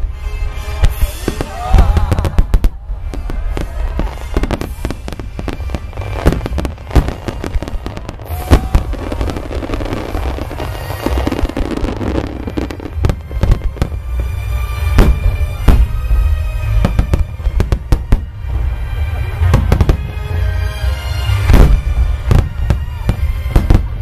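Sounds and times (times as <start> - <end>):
music: 0.0 - 24.0
firework booms and bangs: 0.8 - 20.2, 21.4 - 24.0.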